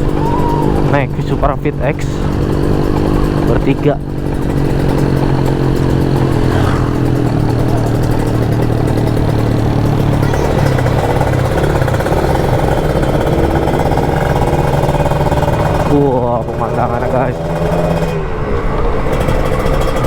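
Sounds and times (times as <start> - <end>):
two-stroke motorcycle engine: 0.0 - 20.0.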